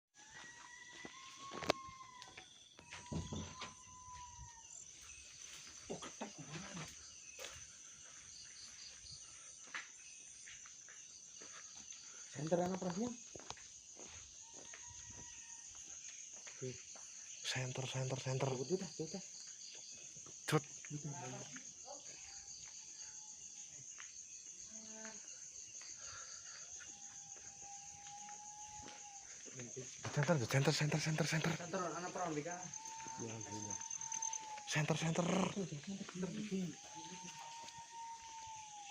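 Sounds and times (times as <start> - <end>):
insect chorus buzzing: 0.2 - 38.9
thin whining insect call: 0.2 - 38.9.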